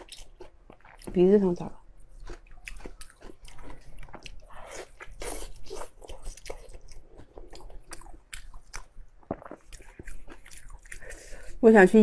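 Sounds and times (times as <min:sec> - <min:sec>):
biting and chewing food: 0:00.0 - 0:11.5.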